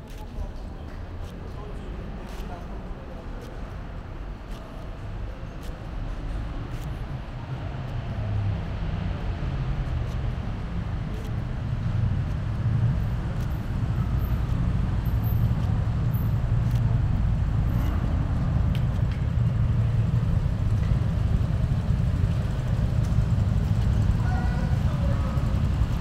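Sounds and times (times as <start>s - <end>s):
city road traffic rumble: 0.0s - 26.0s.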